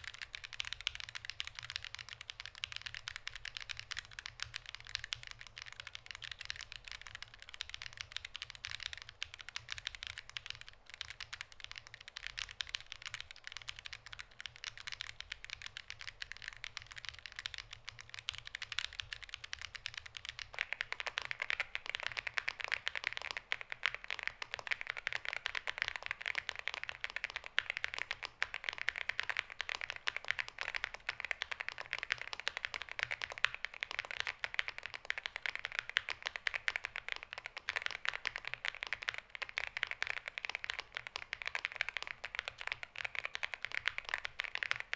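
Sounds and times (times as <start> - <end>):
mechanical keyboard typing: 0.0 - 44.9.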